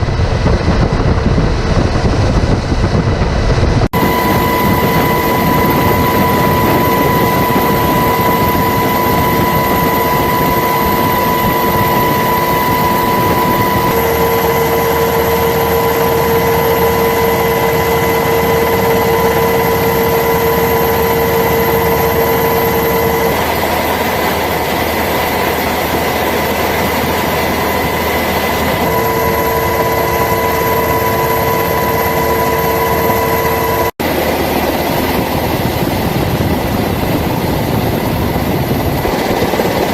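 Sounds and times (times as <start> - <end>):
high turbine whine: 0.0 - 39.9.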